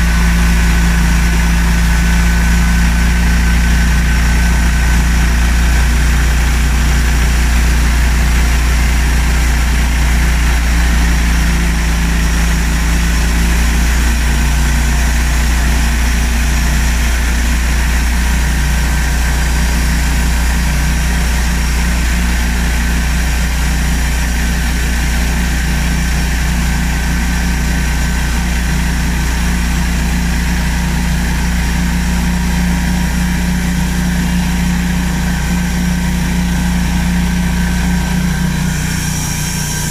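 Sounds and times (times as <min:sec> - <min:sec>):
band saw humming: 0:00.0 - 0:39.9.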